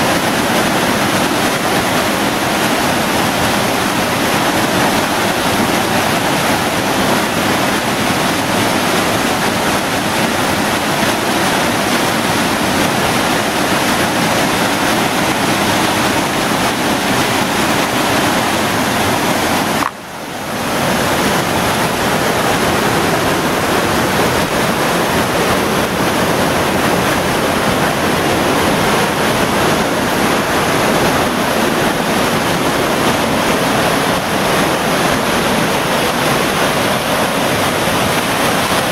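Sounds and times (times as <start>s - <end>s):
creek water rushing over boulders: 0.0s - 38.9s.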